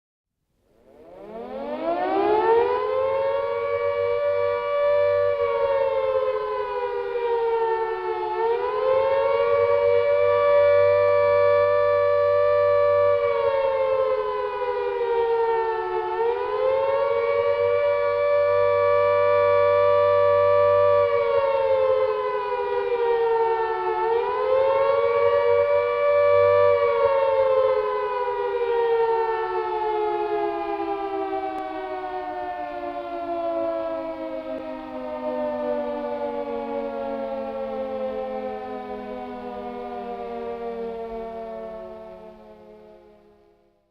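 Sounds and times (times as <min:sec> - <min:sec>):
air raid siren wailing: 0:00.6 - 0:43.9.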